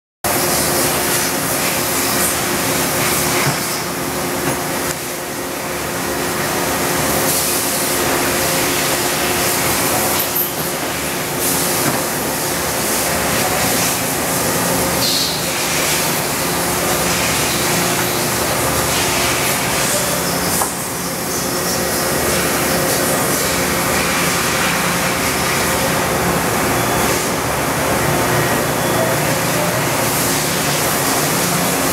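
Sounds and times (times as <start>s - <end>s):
machining center humming: 0.3s - 31.9s.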